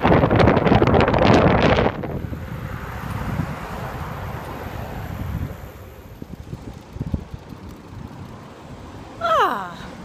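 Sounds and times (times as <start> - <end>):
road traffic noise: 0.0 - 10.0
wind rumbling on microphone: 0.0 - 10.0.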